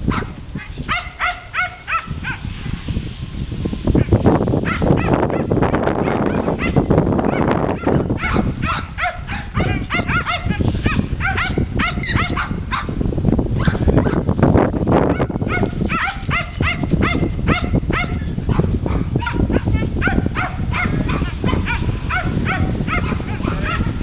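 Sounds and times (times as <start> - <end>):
dog barking in high yips: 0.1 - 2.4, 4.0 - 13.0, 13.6 - 14.3, 15.1 - 24.0
low rumble: 2.2 - 24.0.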